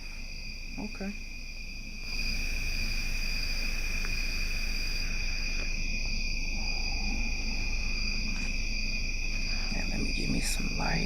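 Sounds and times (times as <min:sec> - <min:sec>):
crickets trilling: 0:00.0 - 0:11.0
low background hum: 0:00.0 - 0:11.0.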